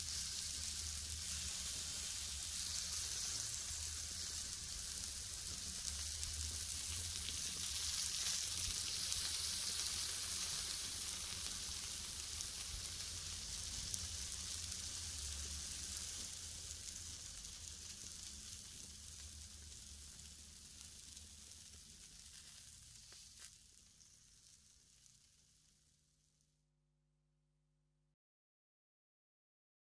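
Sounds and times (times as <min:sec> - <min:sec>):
meat sizzling on a grill: 0:00.0 - 0:26.5.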